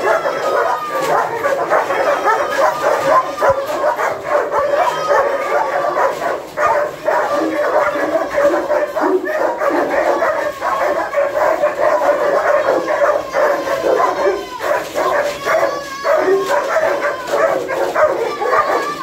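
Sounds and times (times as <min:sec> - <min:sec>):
dogs barking: 0:00.0 - 0:19.0
dogs whining and yipping: 0:00.0 - 0:19.0.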